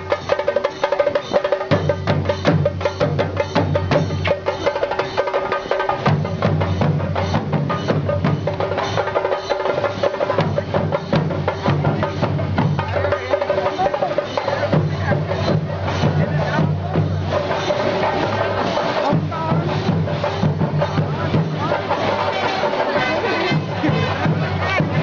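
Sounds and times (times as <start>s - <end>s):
rapid drum strokes: 0.0s - 25.0s.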